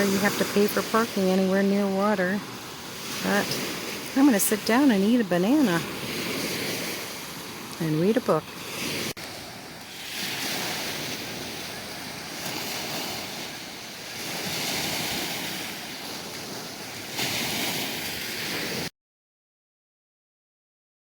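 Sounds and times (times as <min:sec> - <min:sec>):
waves washing on shore: 0:00.0 - 0:18.9
wind gusting on microphone: 0:00.0 - 0:18.9.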